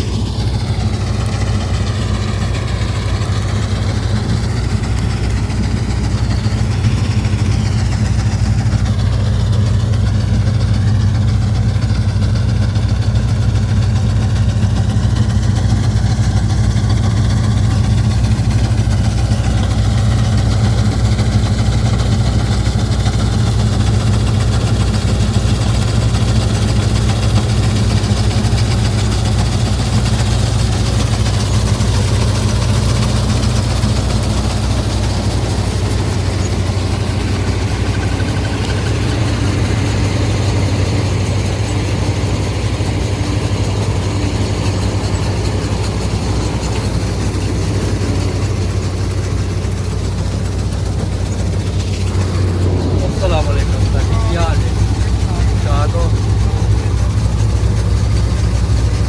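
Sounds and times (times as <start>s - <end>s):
diesel engine running: 0.0s - 59.0s
machinery noise: 0.0s - 59.0s.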